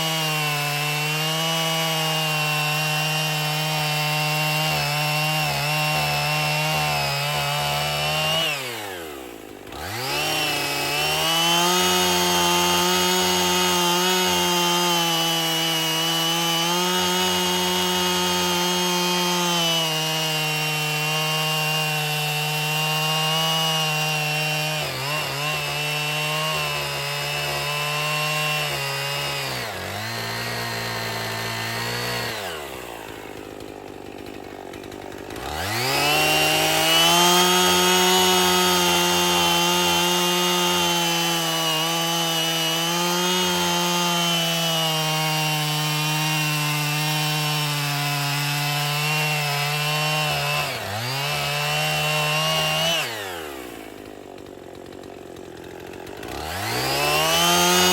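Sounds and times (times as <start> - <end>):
chainsaw running at high revs: 0.0 - 57.9.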